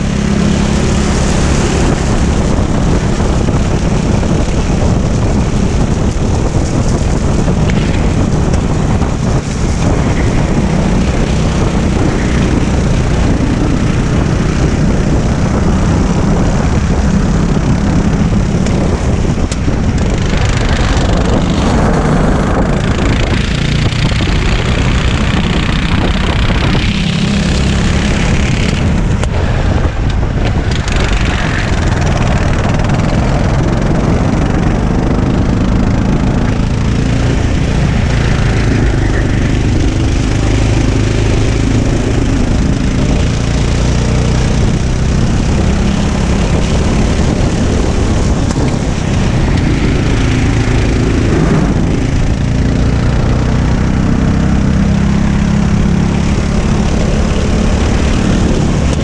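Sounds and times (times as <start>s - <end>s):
kart engine revving: 0.0s - 59.0s
wind buffeting microphone: 0.0s - 59.0s.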